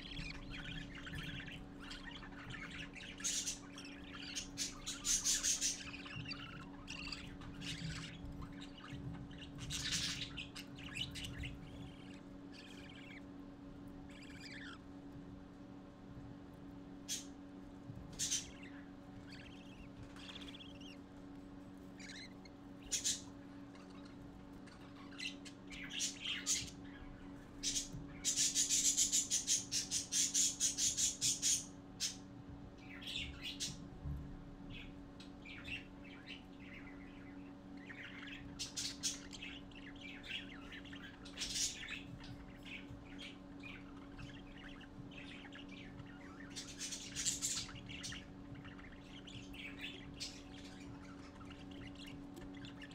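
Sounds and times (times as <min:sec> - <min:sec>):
budgerigar chicks chirping and squawking: 0:00.0 - 0:52.9
steady low hum: 0:00.0 - 0:52.9.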